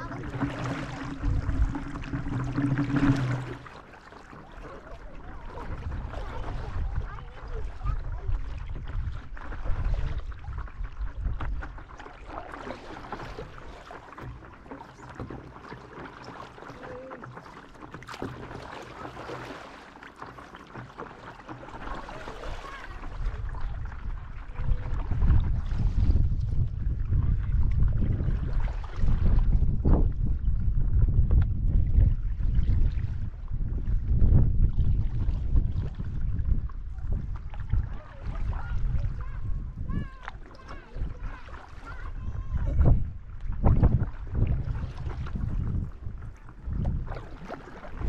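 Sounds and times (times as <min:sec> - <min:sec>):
wind rumble on microphone: 0:00.0 - 0:03.8, 0:04.7 - 0:13.6, 0:21.8 - 0:48.0
water splashing around paddle board: 0:00.0 - 0:48.0.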